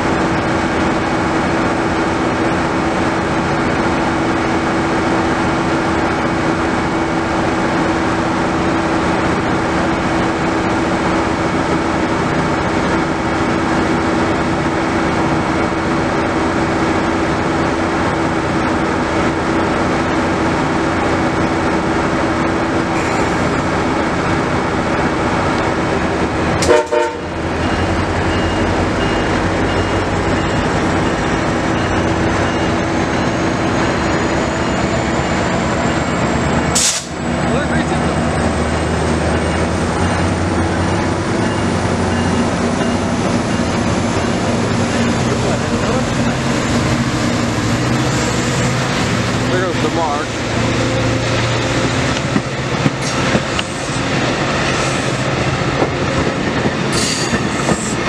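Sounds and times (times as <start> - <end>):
diesel locomotive idling: 0.0 - 58.0.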